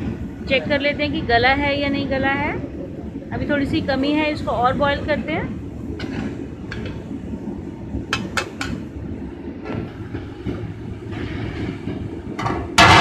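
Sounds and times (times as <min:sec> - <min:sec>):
pot boiling with low rumble: 0:00.0 - 0:13.0.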